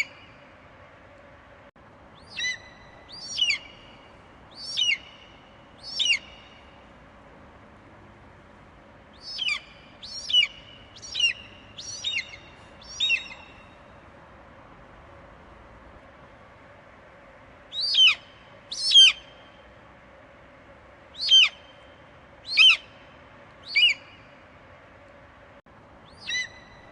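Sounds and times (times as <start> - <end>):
faint steady hiss: 0.0 - 26.9.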